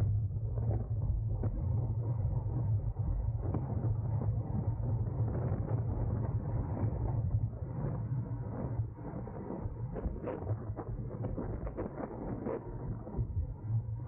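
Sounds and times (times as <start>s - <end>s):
wind and tyre rumble: 0.0s - 14.0s.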